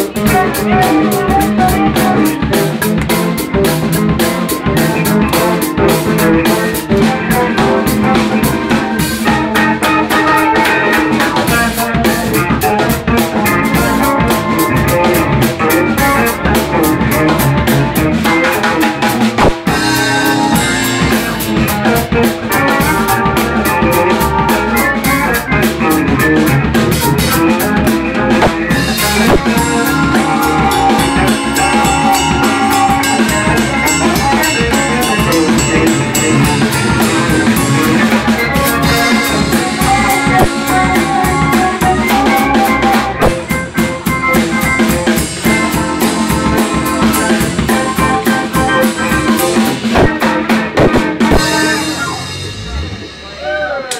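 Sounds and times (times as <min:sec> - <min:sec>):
bass sounding like electric guitar: 0:00.0 - 0:53.9
bongos: 0:00.0 - 0:53.9
drum kit: 0:00.0 - 0:53.9
funk band jamming: 0:00.0 - 0:53.9
keyboards: 0:00.0 - 0:53.9.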